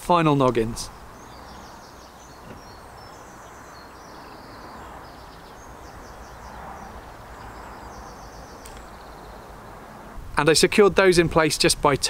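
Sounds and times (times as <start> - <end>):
outdoor background noise: 0.0 - 12.0
small birds chirping: 0.3 - 10.2.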